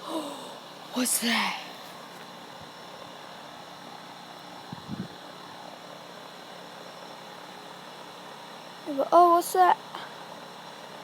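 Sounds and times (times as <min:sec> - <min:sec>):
faint hum and hiss: 0:00.0 - 0:11.0
thin steady tones: 0:00.0 - 0:11.0.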